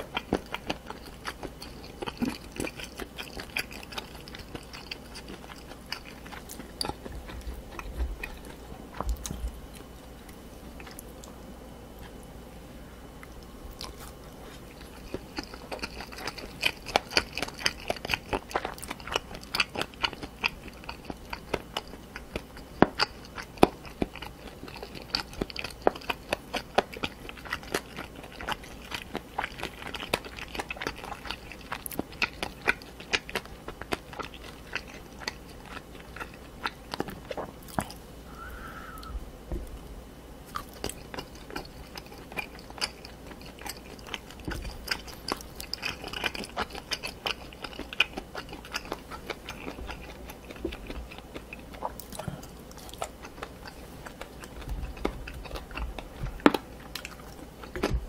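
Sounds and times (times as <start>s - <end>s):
chewing crunchy cartilage: 0.0s - 12.4s, 13.1s - 38.1s, 39.6s - 58.0s.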